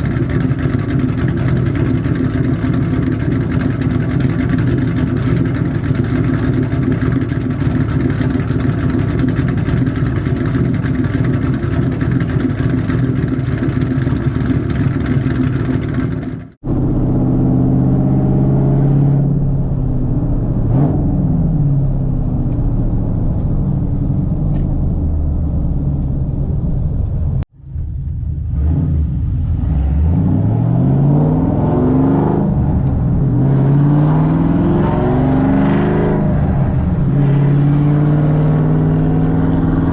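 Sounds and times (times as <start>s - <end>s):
loud car engine revving: 0.0s - 24.5s, 28.4s - 39.9s.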